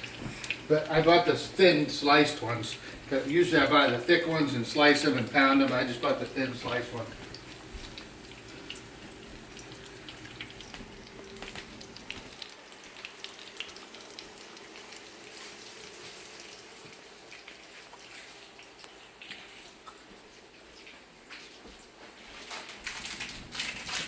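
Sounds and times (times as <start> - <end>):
meat sizzling in a frying pan: 0.0 - 19.8.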